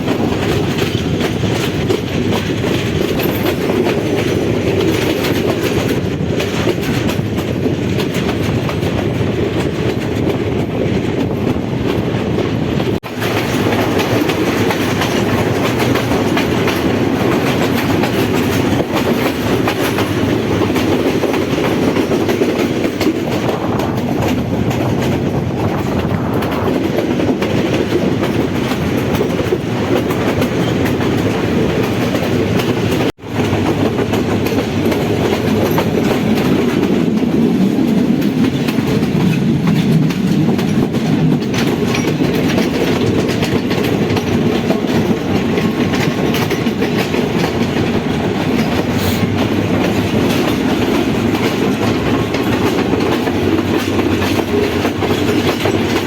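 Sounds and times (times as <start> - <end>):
passenger train rumbling: 0.0 - 56.0
wheels clattering over rails: 0.0 - 56.0.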